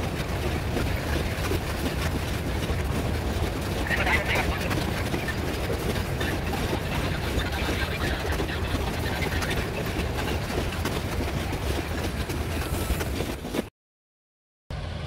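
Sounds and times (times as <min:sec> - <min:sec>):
steel wheels rumbling on track: 0:00.0 - 0:13.7
wagons clanking and clicking: 0:00.0 - 0:13.7.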